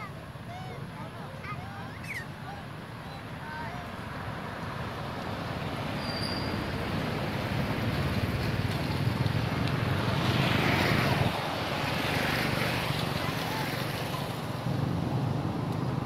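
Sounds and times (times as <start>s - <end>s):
road vehicle passing: 2.0s - 16.0s.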